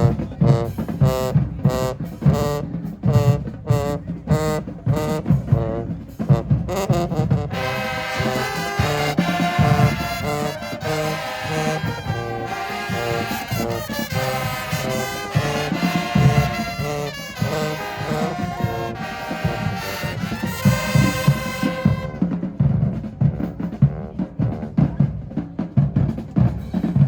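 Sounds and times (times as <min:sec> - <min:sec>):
marching band brass horns: 0:00.0 - 0:27.0
marching band drums: 0:00.0 - 0:27.0.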